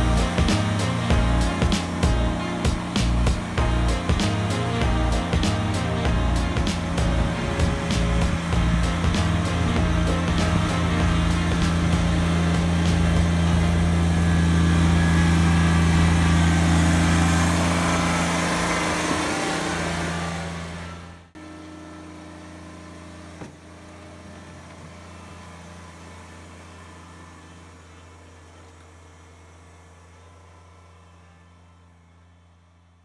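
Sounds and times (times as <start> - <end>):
quiet engine hum: 0.0 - 32.8
tractor diesel engine running: 0.0 - 33.0.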